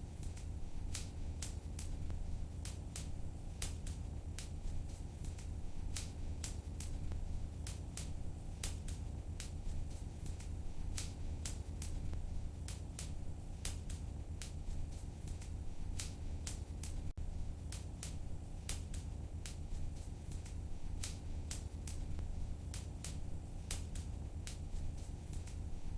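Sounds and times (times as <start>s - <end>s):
fire crackling pops and snaps: 0.0s - 25.9s
low rumble of fire: 0.0s - 25.9s.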